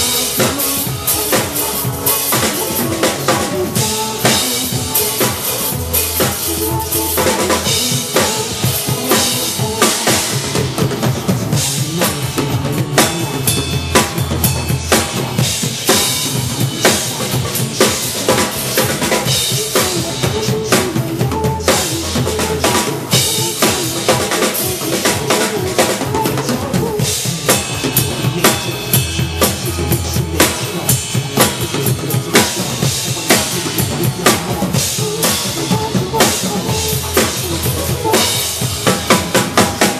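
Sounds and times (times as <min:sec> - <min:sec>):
backing track bass and melody: 0:00.0 - 0:39.9.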